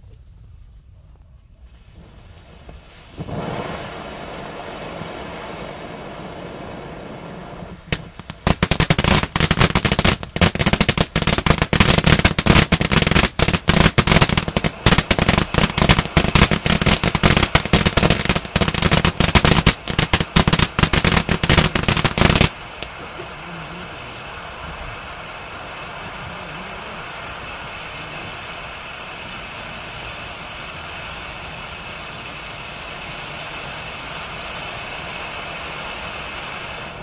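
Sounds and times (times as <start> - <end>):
rapid crackles and pops: 0.0 - 30.8
fireworks fountain hissing: 0.0 - 37.0.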